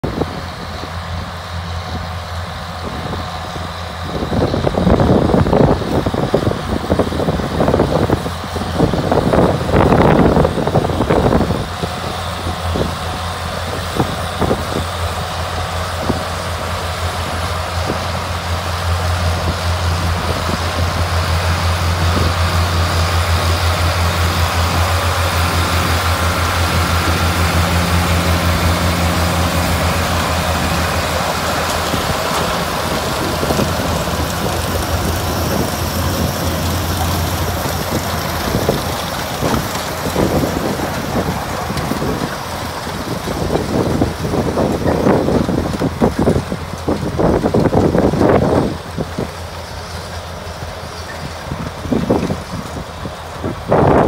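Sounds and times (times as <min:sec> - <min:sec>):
diesel tractor engines running: 0:00.0 - 0:54.0.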